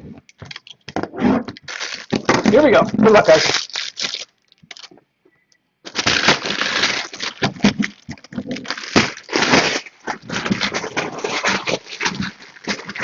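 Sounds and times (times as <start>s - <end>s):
cardboard and plastic wrap tearing: 1.4s - 4.9s, 5.9s - 13.0s.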